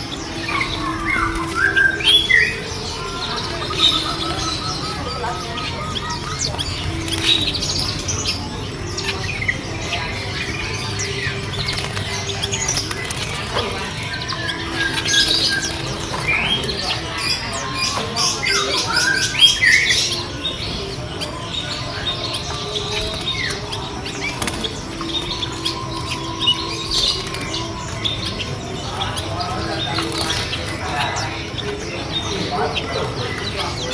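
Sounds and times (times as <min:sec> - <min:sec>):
doves calling: 0:00.0 - 0:33.9
small birds chirping and twittering: 0:00.0 - 0:33.9.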